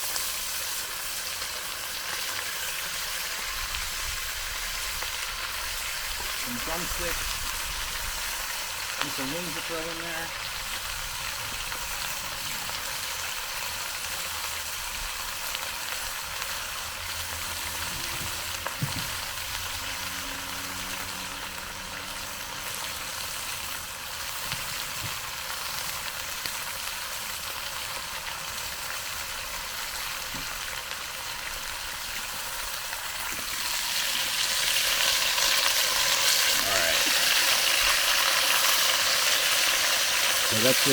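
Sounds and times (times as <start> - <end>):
chicken sizzling in skillet: 0.0 - 40.9.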